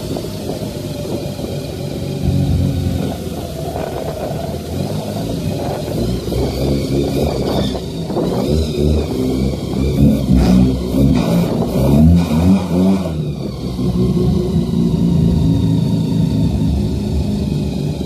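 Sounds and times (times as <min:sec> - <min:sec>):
rotary car engine revving: 0:00.0 - 0:18.0.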